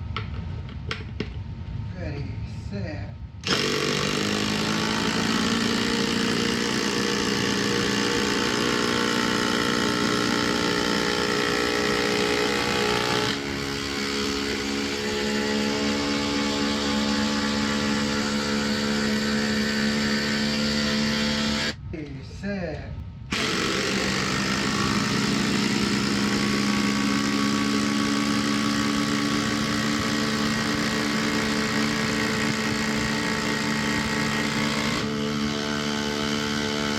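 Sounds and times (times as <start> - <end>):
impact drivers whining and rattling: 3.4 - 21.8, 23.3 - 36.9.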